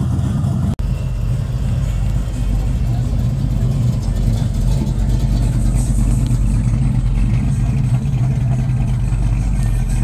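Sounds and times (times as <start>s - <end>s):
car engine rumbling at low speed: 0.0s - 10.0s.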